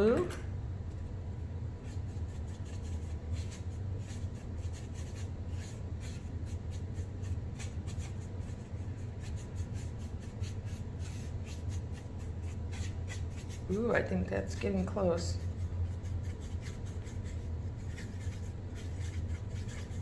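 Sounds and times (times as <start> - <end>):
steady low hum: 0.0 - 20.0
paintbrush scrubbing foam tray: 1.8 - 20.0.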